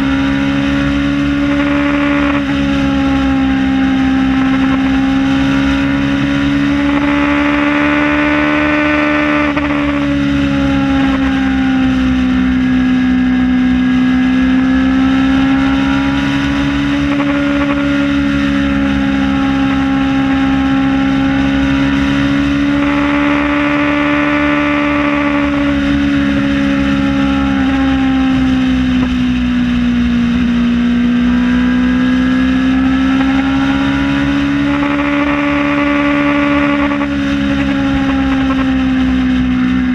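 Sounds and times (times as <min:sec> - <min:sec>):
constant rushing noise: 0:00.0 - 0:39.9
motorcycle engine cruising: 0:00.0 - 0:39.9.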